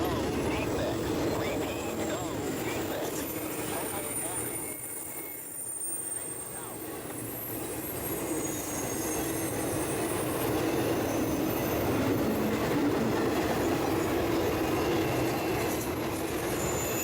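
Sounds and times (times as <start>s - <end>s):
train wheels rumbling on rails: 0.0s - 17.0s
high wheel squeal: 1.8s - 12.6s, 13.6s - 17.0s.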